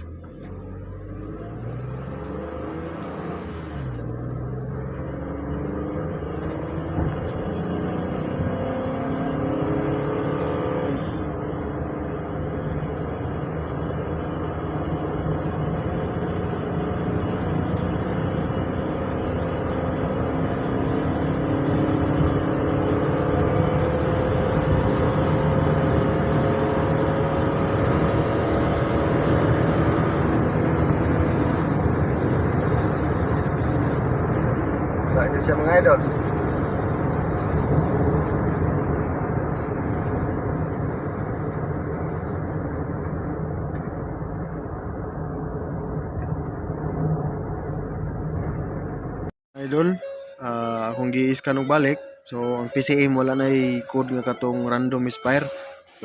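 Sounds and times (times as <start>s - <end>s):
van engine accelerating: 0.0s - 56.0s.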